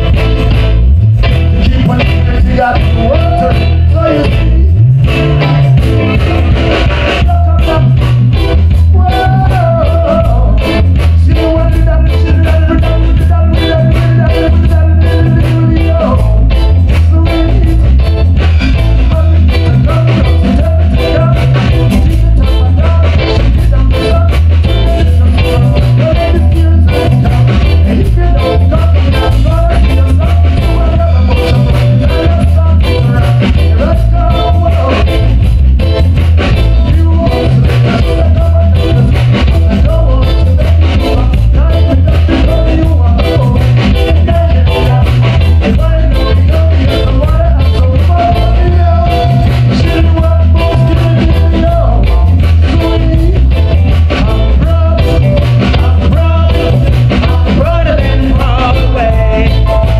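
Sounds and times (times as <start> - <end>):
reggae band playing: 0.0 - 59.9
man singing: 1.3 - 59.9.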